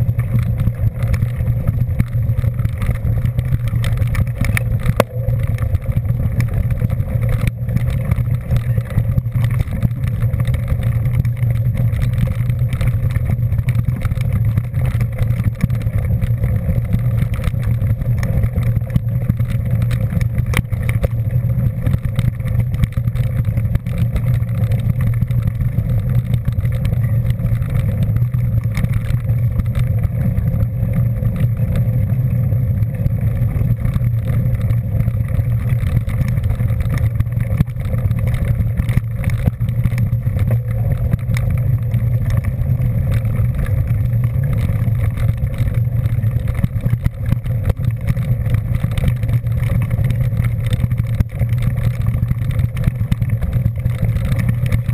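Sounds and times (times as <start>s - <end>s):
road and wind noise: 0.0s - 54.9s
vehicle engine drone: 0.0s - 54.9s.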